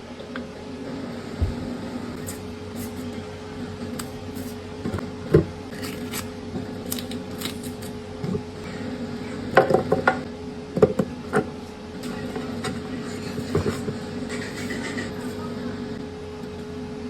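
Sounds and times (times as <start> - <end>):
low appliance hum: 0.0 - 17.0.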